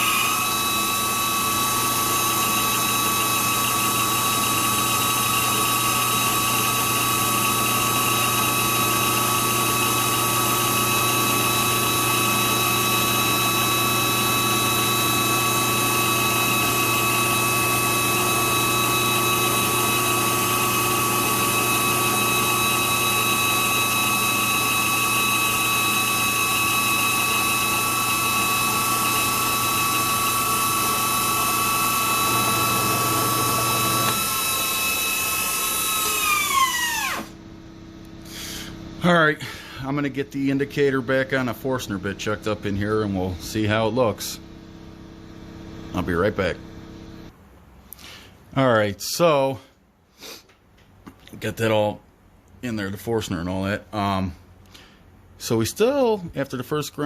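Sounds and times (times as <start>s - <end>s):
high-pitched grinder whine: 0.0s - 47.3s
motor hum: 0.0s - 47.3s.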